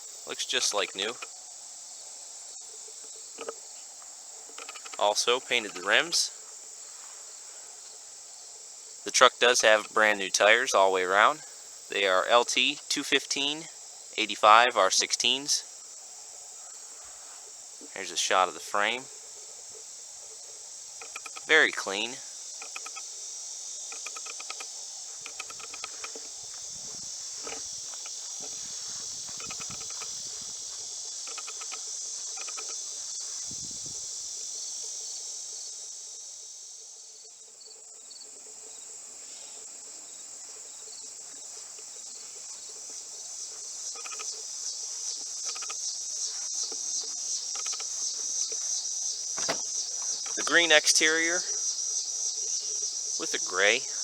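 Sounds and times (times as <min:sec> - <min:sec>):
insect chorus trilling: 0:00.0 - 0:54.0
short insect chirps: 0:00.0 - 0:54.0.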